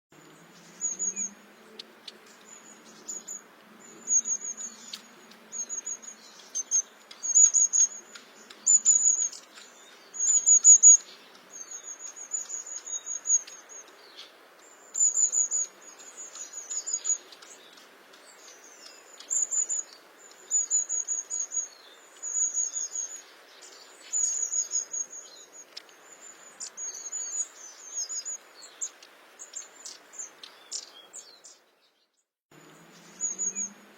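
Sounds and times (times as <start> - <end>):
faint steady hiss: 0.2 - 33.9
bird calling high trills: 0.6 - 31.5, 32.7 - 33.8.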